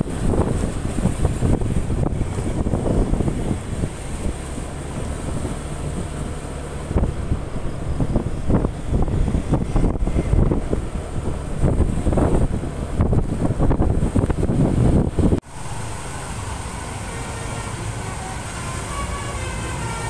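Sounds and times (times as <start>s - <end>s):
road vehicle rumble: 0.0s - 20.0s
traffic hum: 0.0s - 20.0s
wind buffeting microphone: 0.0s - 20.0s.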